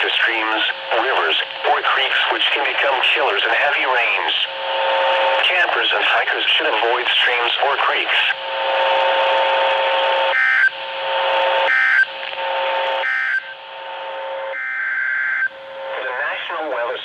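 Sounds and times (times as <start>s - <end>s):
radio static: 0.0s - 14.5s, 15.5s - 17.0s
steady hum: 0.0s - 17.0s.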